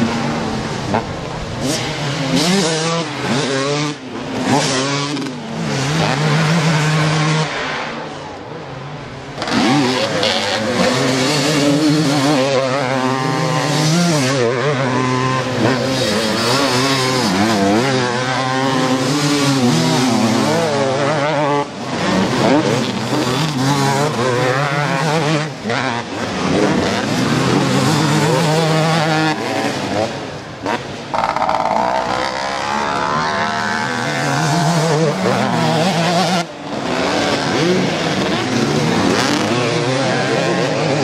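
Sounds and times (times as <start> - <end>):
motocross bike engines revving: 0.0 - 41.0.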